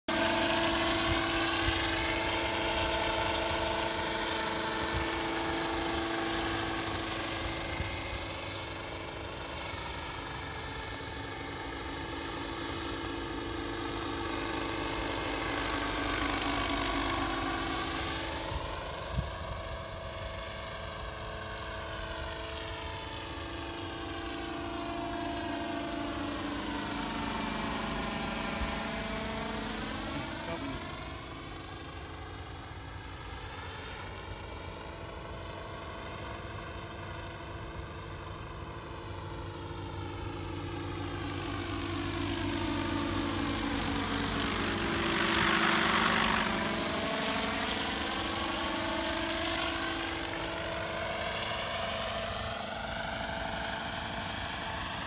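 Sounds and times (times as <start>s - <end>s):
model helicopter rotor whine: 0.1s - 55.0s.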